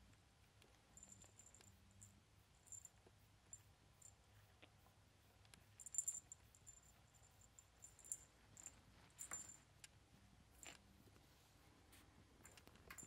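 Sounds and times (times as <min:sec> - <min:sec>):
faint clicks and rustles: 0:00.0 - 0:13.0.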